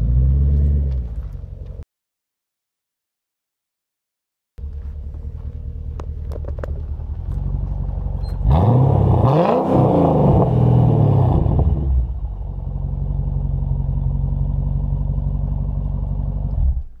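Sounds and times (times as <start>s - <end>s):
car engine revving and idling: 0.0s - 1.8s, 4.6s - 17.0s.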